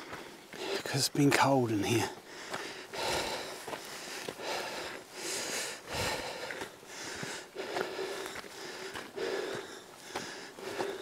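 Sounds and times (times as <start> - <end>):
person breathing heavily: 0.0 - 1.0, 2.1 - 11.0.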